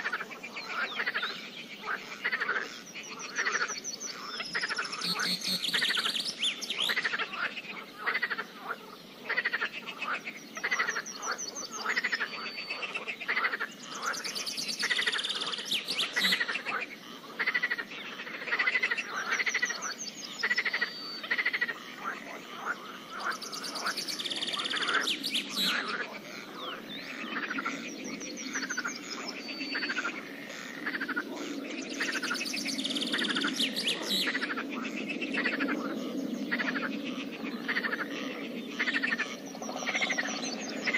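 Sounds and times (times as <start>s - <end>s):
frogs croaking: 0.0s - 40.9s.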